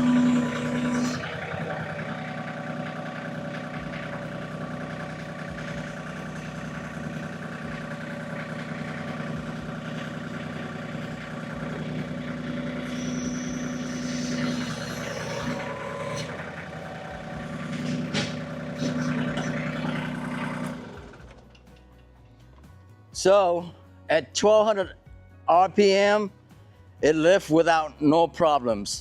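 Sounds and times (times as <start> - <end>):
tractor diesel engine running: 0.0 - 23.4.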